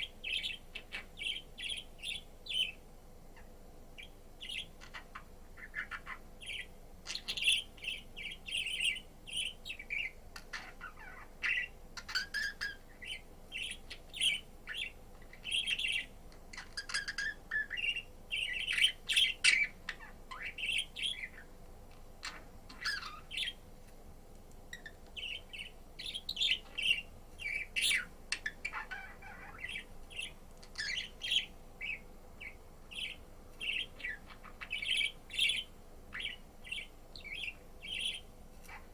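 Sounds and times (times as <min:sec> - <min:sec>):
budgerigar chirping and warbling: 0:00.0 - 0:02.8, 0:03.4 - 0:21.5, 0:22.2 - 0:23.6, 0:24.7 - 0:38.9.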